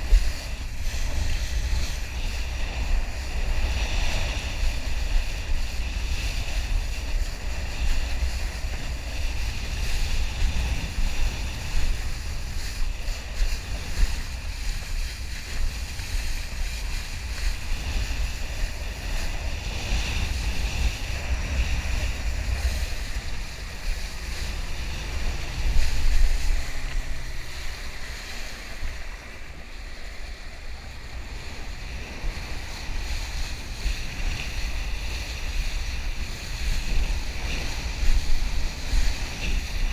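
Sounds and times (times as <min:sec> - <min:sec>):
water rushing under a board: 0:00.0 - 0:39.9
wind buffeting microphone: 0:00.0 - 0:39.9.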